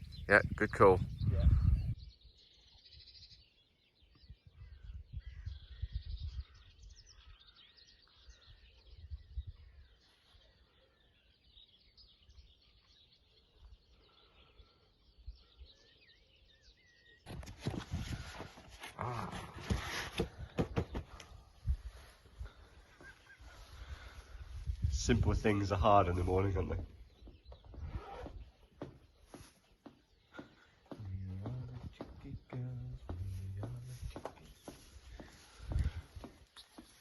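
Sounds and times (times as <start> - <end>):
small birds singing: 0.0 - 37.0.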